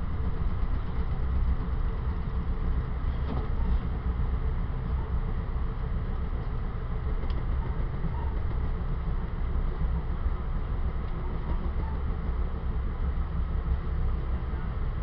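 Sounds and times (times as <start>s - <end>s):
train car rumble: 0.0s - 15.0s.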